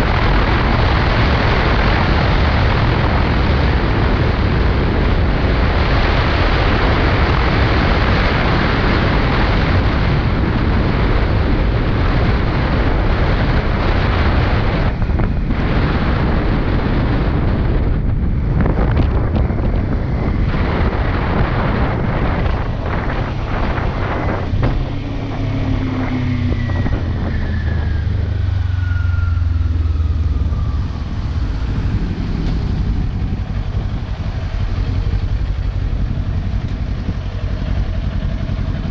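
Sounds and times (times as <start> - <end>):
motorcycle engine: 0.0 - 38.9
wind rush on microphone: 0.0 - 38.9.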